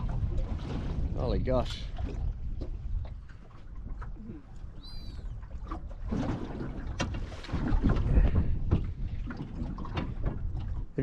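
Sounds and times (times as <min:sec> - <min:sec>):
wind gusting on microphone: 0:00.0 - 0:11.0.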